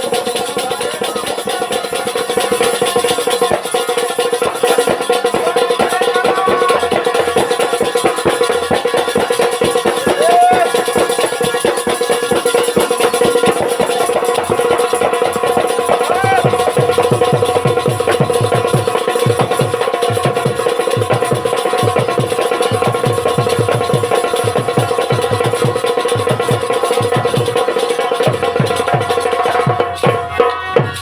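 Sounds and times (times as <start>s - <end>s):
fast repeating drum strokes: 0.0s - 31.0s
jingling percussion rattling: 0.0s - 31.0s.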